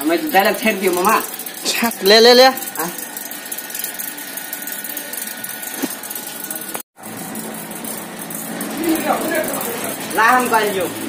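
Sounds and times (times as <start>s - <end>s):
potter's wheel motor humming: 0.0s - 11.0s.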